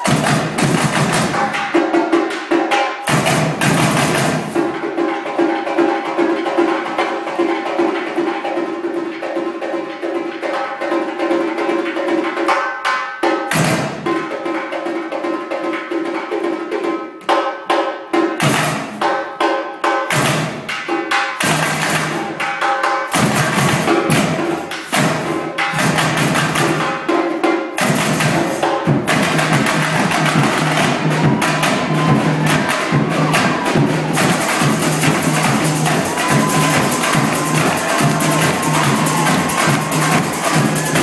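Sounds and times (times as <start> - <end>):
samba percussion band: 0.0 - 41.0.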